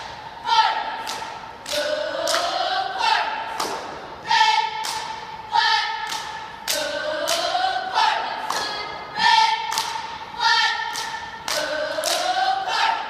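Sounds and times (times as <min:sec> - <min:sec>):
cheer squad chanting: 0:00.0 - 0:13.0.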